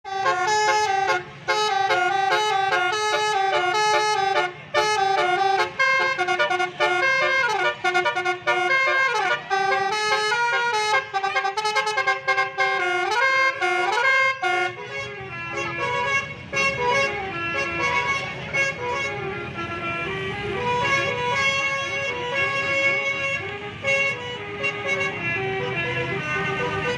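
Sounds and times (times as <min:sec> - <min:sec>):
musical air horn playing tune: 0:00.0 - 0:26.9.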